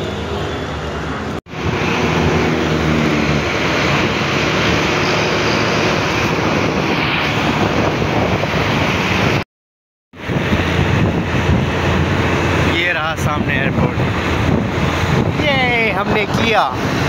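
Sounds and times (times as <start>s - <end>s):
road traffic: 0.0s - 9.5s, 10.2s - 17.0s
wind noise on microphone: 1.5s - 9.4s, 10.2s - 17.0s.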